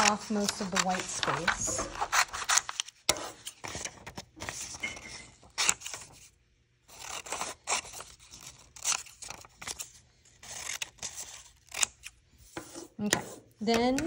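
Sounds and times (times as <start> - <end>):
scissors snipping paper: 0.0 - 4.7, 6.9 - 14.0
paper rustling: 0.0 - 6.3, 6.9 - 12.9.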